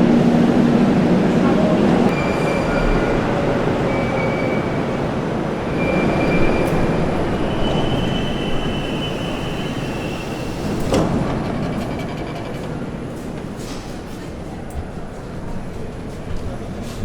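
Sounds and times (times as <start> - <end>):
metro train rumbling on rails: 0.0 - 17.0.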